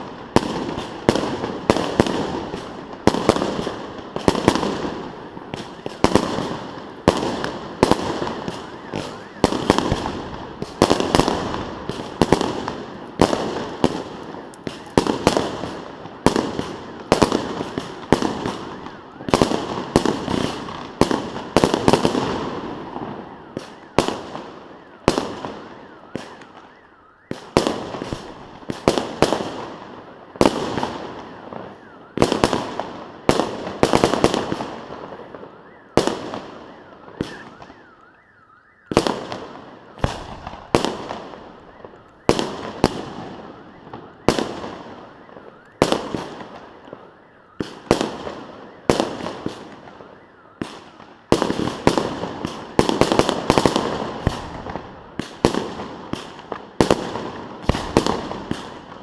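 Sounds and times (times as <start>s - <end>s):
fireworks bangs with crackling: 0.0s - 59.0s.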